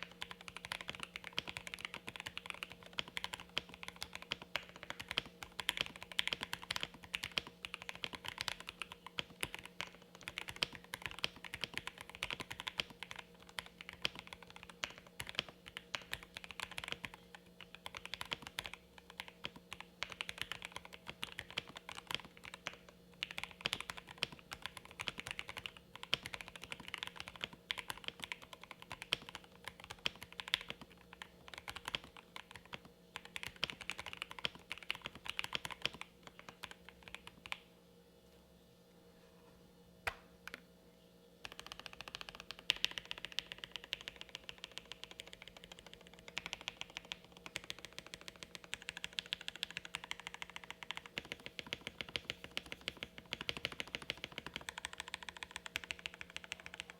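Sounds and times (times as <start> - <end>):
fast typing on mechanical keyboard: 0.0 - 37.6, 41.4 - 56.9.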